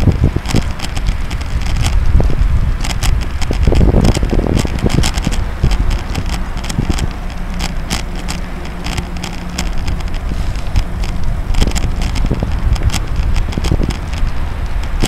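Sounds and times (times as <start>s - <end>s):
bike rattling clicks: 0.0s - 15.0s
low road rumble: 0.0s - 15.0s
wind buffeting microphone: 0.0s - 15.0s.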